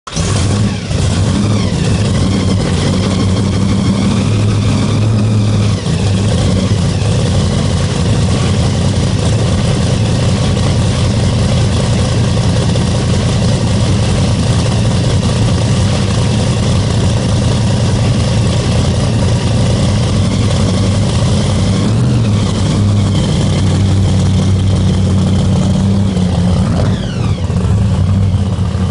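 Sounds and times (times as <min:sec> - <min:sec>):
car engine running loudly: 0:00.0 - 0:28.9.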